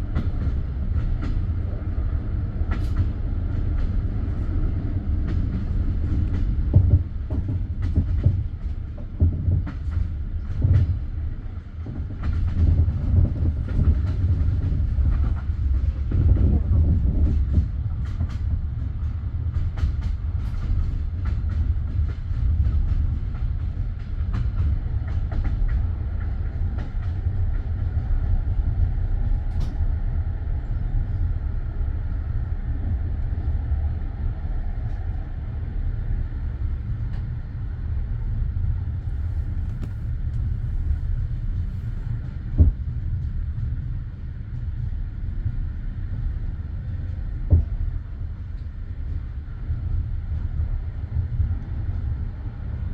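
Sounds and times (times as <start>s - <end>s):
train carriage low rumble: 0.0s - 52.9s.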